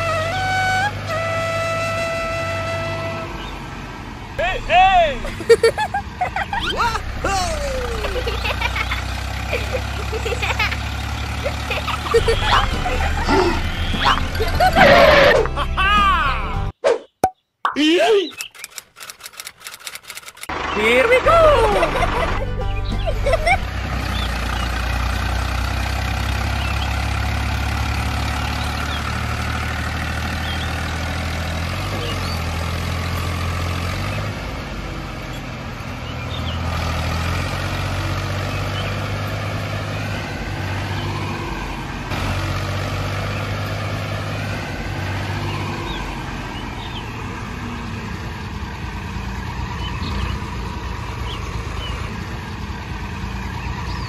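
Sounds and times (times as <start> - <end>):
tractor engine droning: 0.0 - 16.7, 18.3 - 54.0.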